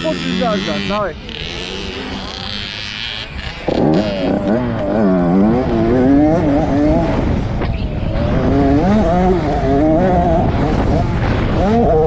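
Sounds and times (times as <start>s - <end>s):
two-stroke motorbike engine revving: 0.0s - 12.0s.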